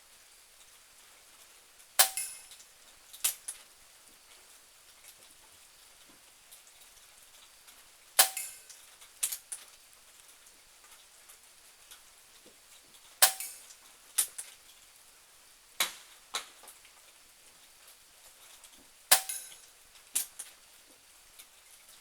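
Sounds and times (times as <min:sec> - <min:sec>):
faint rain hiss: 0:00.0 - 0:22.0.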